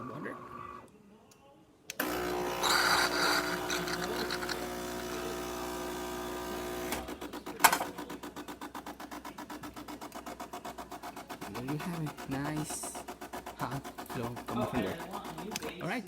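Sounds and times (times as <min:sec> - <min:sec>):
espresso machine pump humming: 0:02.0 - 0:15.8.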